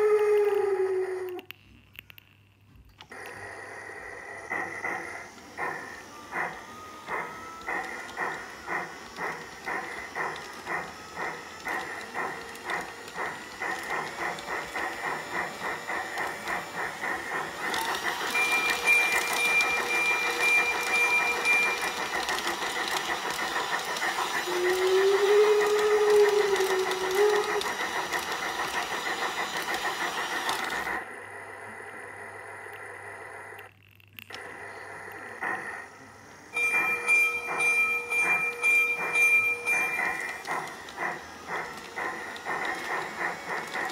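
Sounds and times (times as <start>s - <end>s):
model steam locomotive chuffing: 3.2s - 33.6s, 34.4s - 43.9s.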